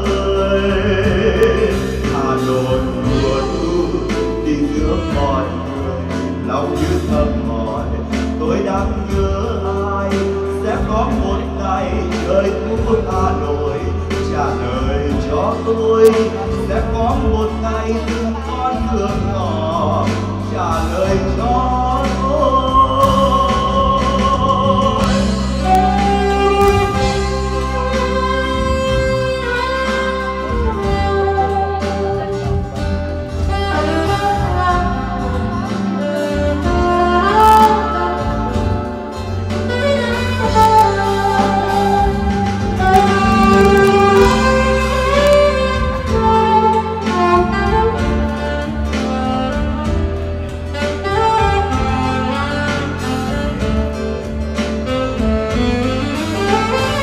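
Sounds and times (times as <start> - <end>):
saxophone melody: 0.0 - 9.4, 10.0 - 57.0
acoustic guitar: 0.0 - 57.0
low bass line: 0.0 - 57.0.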